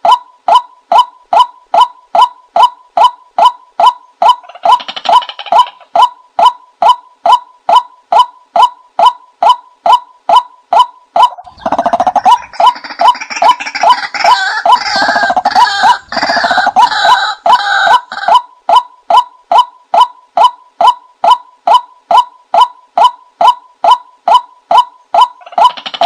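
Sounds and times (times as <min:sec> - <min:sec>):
fowl squawking and clucking: 0:00.0 - 0:26.0
repeated bird call: 0:00.0 - 0:26.0.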